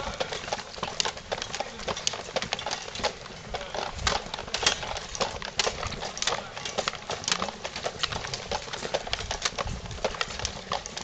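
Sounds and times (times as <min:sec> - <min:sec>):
carried gear rattling: 0:00.0 - 0:11.0
footsteps on dirt path: 0:00.0 - 0:11.0.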